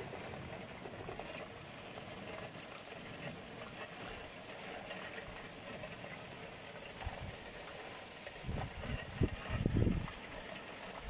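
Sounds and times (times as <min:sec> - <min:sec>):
rain falling on roofs: 0:00.0 - 0:11.0.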